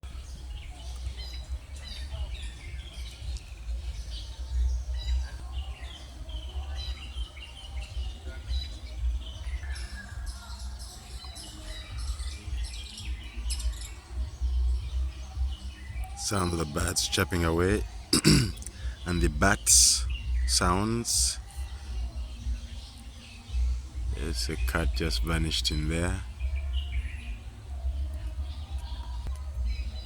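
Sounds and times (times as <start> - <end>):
birds chirping and twittering: 0.0 - 30.0.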